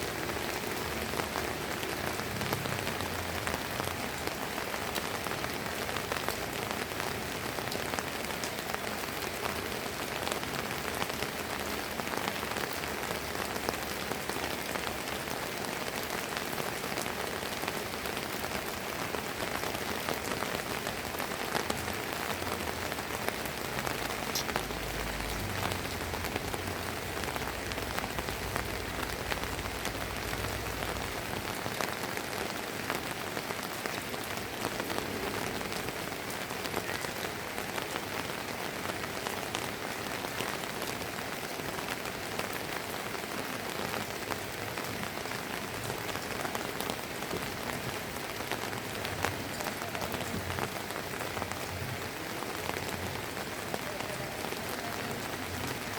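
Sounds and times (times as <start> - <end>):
drizzling rain drops ticking: 0.0 - 55.9.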